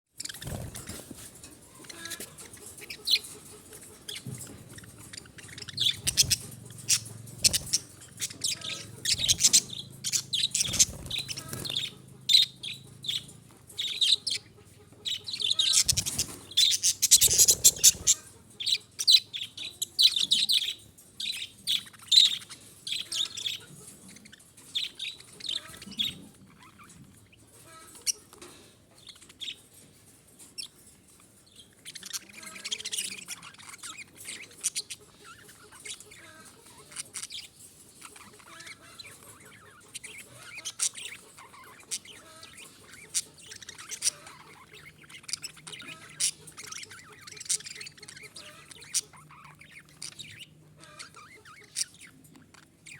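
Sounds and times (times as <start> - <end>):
budgerigars chirping: 0.2 - 29.8, 30.4 - 52.9.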